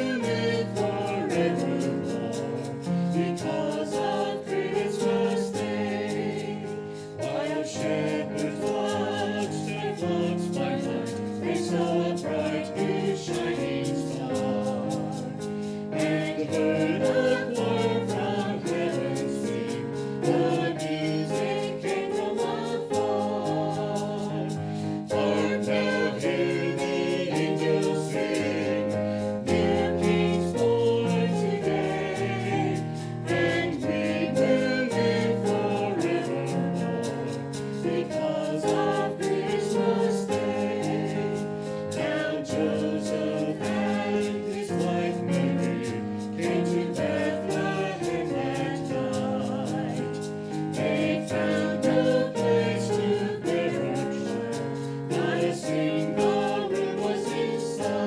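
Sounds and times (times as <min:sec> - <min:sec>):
choir singing in harmony: 0:00.0 - 0:58.0
instrumental accompaniment: 0:00.0 - 0:58.0.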